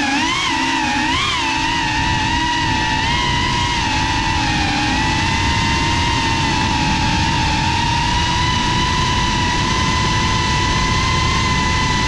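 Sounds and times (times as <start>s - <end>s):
drone motors whining: 0.0s - 12.0s
wind rushing over microphone: 0.4s - 12.0s.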